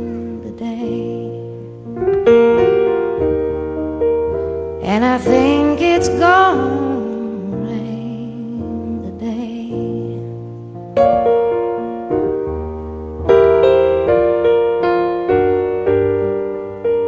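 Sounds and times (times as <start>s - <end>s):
piano chords ringing: 0.0s - 17.0s.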